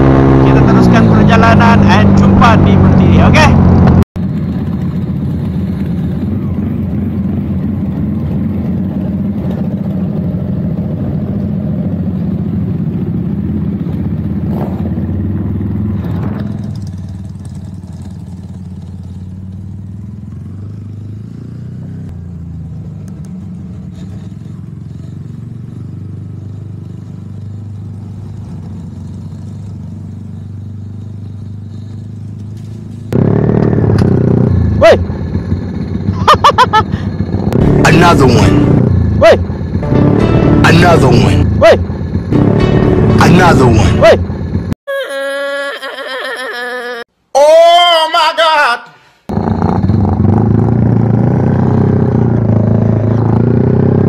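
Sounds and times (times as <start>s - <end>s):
motorcycle engine running: 0.0s - 44.8s, 49.3s - 54.0s.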